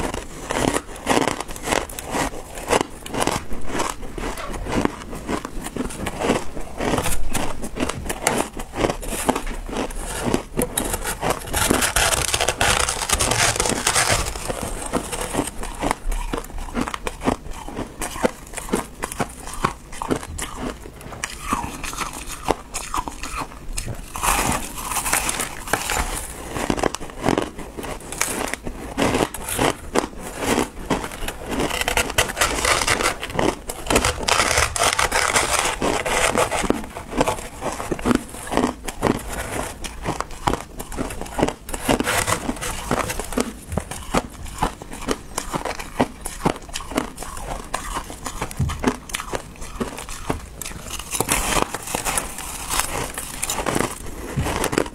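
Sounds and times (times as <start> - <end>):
ice crunching between teeth: 0.0 - 54.9
metal spoon scraping ice: 8.3 - 27.4, 28.0 - 54.1.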